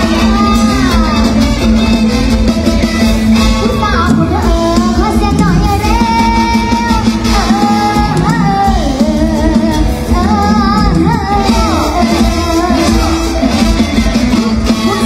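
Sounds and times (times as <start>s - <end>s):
high voice singing: 0.0s - 2.0s, 3.4s - 15.0s
band with steady bass: 0.0s - 15.0s.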